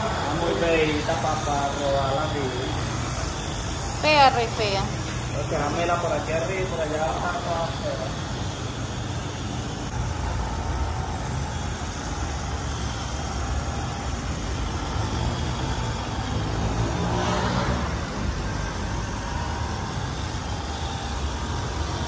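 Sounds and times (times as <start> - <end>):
electric polisher droning: 0.0 - 22.0.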